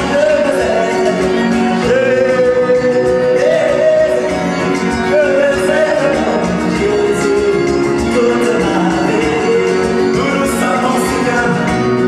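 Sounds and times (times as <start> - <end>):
guitar accompaniment: 0.0 - 12.0
man singing into a microphone: 0.0 - 12.0.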